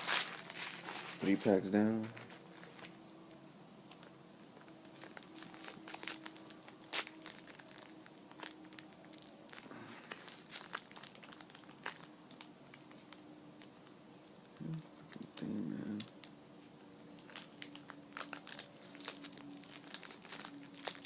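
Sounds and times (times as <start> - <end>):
wrapper crinkling and tearing: 0.0 - 14.4, 15.1 - 16.3, 17.1 - 21.0.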